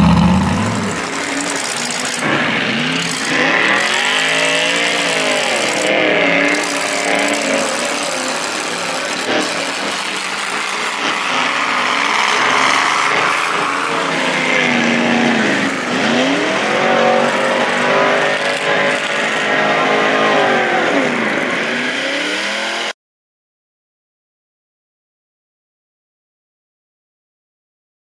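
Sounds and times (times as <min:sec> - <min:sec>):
truck engine revving hard: 0:00.0 - 0:22.9.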